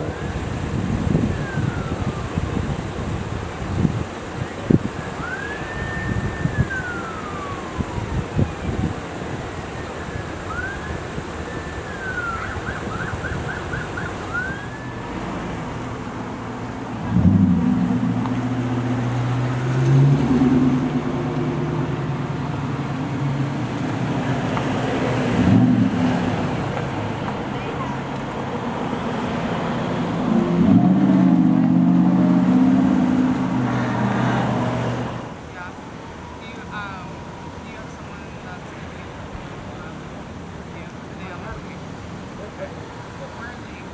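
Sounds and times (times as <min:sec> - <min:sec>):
faint emergency siren: 0:00.0 - 0:43.9
road traffic noise: 0:00.0 - 0:43.9
vehicle engine drone: 0:00.0 - 0:43.9.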